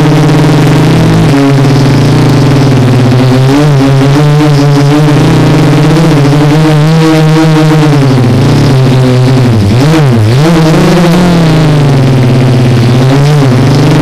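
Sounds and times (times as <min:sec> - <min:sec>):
quadcopter propellers whining: 0:00.0 - 0:14.0.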